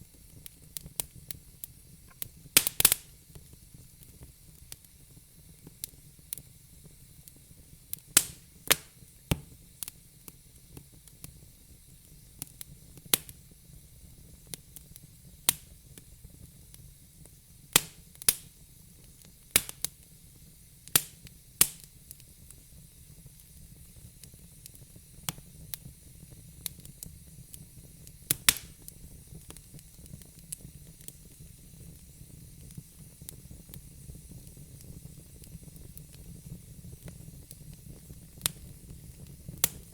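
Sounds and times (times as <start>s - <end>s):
faint steady hiss: 0.0s - 39.9s
fire crackling: 0.0s - 39.9s.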